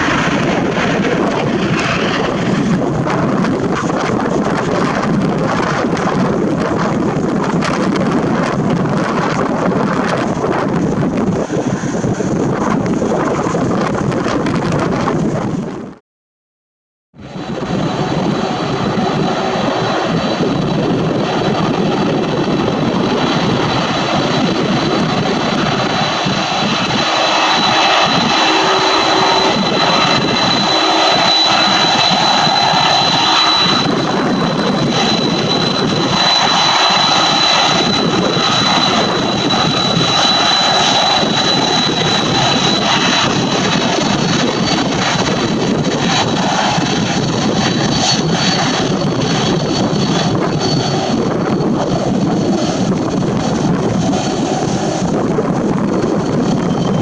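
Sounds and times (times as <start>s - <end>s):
high engine whine: 0.0s - 12.0s, 17.2s - 57.0s
jet engines at takeoff: 0.0s - 16.0s, 17.2s - 57.0s.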